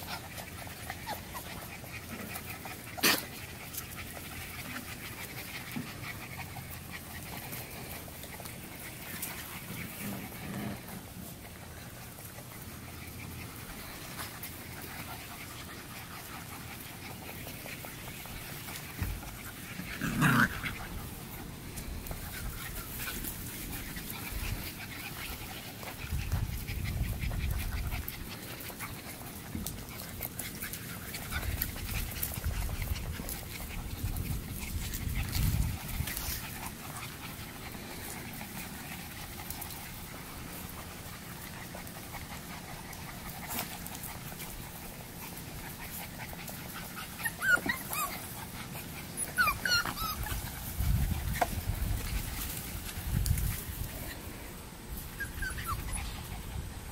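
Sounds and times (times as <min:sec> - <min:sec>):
puppies panting and whimpering: 0:00.0 - 0:56.9.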